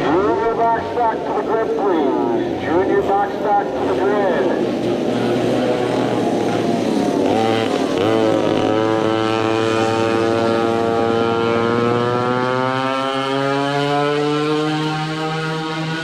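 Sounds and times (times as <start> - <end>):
go-kart engines accelerating: 0.0 - 16.0.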